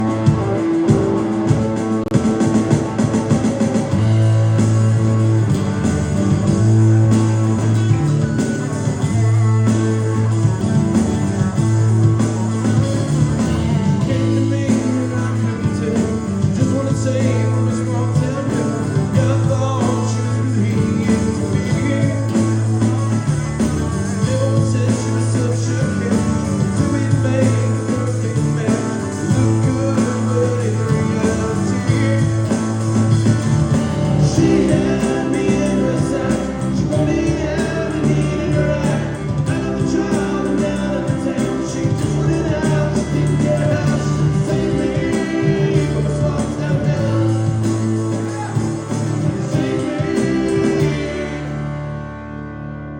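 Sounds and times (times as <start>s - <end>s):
bass line: 0.0s - 52.9s
drums: 0.0s - 52.9s
electric guitar: 0.0s - 52.9s.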